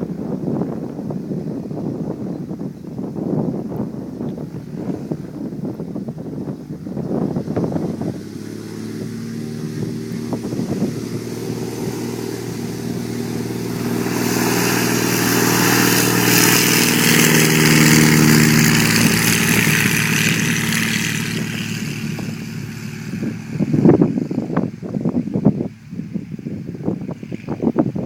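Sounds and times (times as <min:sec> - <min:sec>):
light aircraft engine running: 0:00.0 - 0:28.0.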